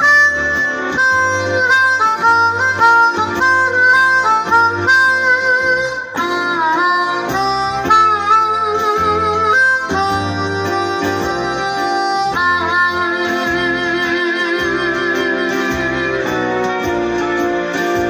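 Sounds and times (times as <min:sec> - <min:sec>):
backing track with bass line: 0:00.0 - 0:18.0
harmonica melody: 0:00.0 - 0:18.0.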